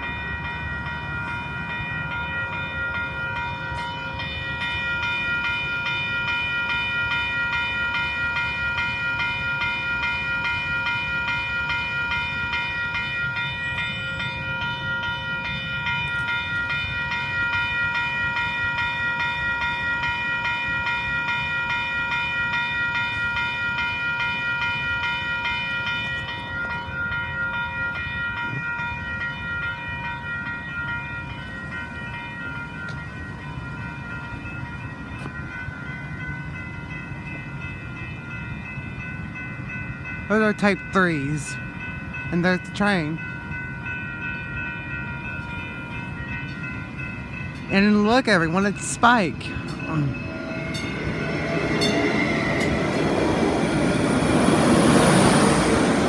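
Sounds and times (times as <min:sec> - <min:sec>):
electronic crossing bell dinging: 0:00.0 - 0:54.5.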